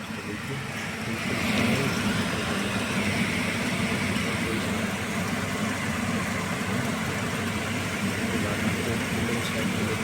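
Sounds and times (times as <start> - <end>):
air-conditioning unit running: 0.0 - 10.0.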